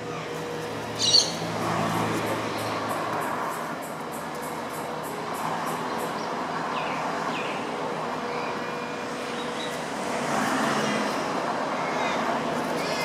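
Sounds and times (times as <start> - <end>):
road traffic noise: 0.0 - 13.0
vehicle passing: 0.3 - 13.0.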